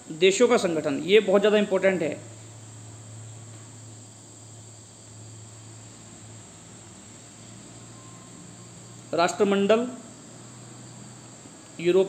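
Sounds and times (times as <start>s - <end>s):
constant low hum: 0.0s - 12.0s
even hiss: 0.0s - 12.0s
thin high whine: 0.0s - 12.0s.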